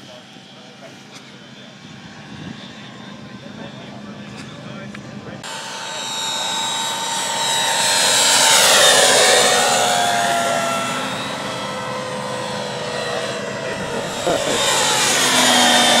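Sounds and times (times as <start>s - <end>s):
model aircraft engine flying past: 0.1s - 16.0s.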